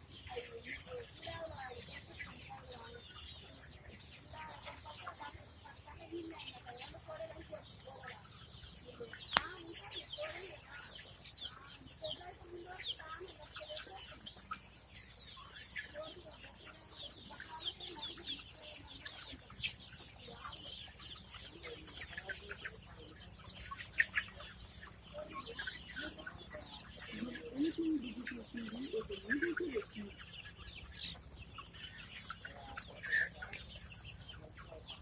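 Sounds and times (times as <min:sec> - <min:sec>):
guinea fowl and hens calling: 0:00.0 - 0:35.0.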